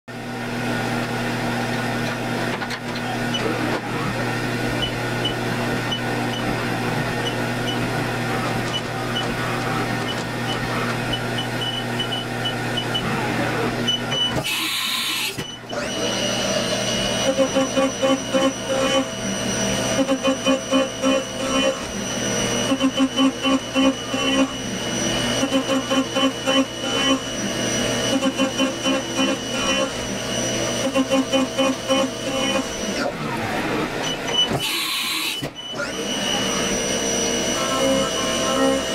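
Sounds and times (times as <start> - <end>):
end mill cutting metal: 0.1 - 38.9
milling machine humming: 0.1 - 38.9.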